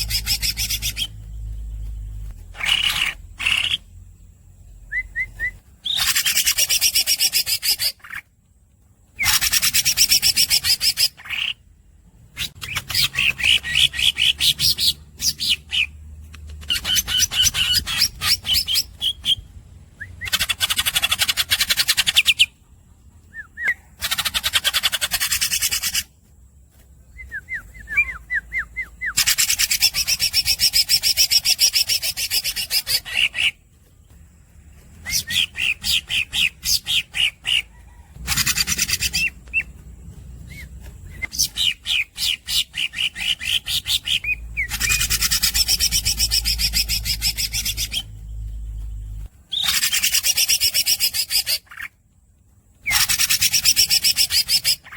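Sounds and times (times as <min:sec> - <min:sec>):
squeaky bird chirps: 0:00.0 - 0:04.0, 0:04.8 - 0:08.3, 0:09.2 - 0:11.7, 0:12.3 - 0:16.0, 0:16.6 - 0:22.6, 0:23.2 - 0:26.1, 0:27.1 - 0:33.6, 0:35.0 - 0:52.0, 0:52.8 - 0:54.9.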